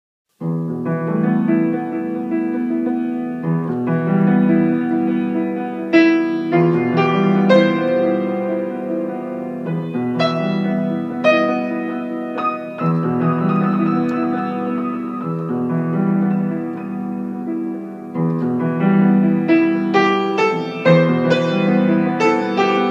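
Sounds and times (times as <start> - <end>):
piano music: 0.3 - 22.9.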